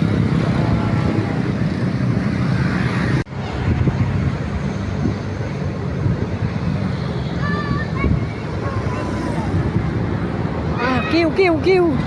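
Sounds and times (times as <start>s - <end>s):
passing vehicle engines rumbling: 0.0s - 12.0s.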